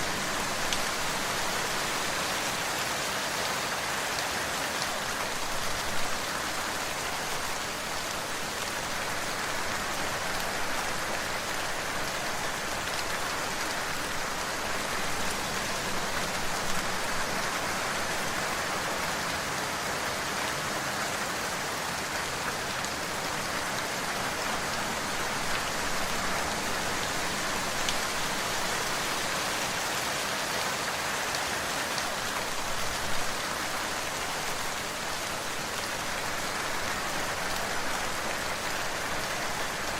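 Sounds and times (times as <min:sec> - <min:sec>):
raindrops pattering: 0:00.0 - 0:02.8, 0:03.9 - 0:19.6, 0:22.0 - 0:29.8, 0:31.2 - 0:39.9
steady rain hiss: 0:00.0 - 0:39.9.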